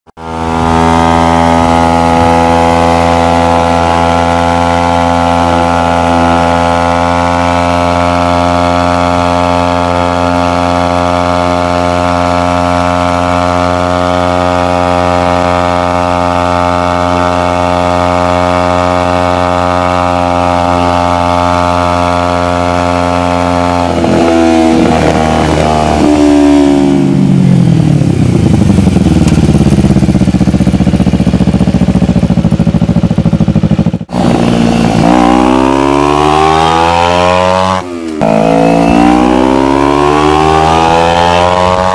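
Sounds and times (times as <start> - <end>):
motorcycle engine cruising: 0.2 - 41.9.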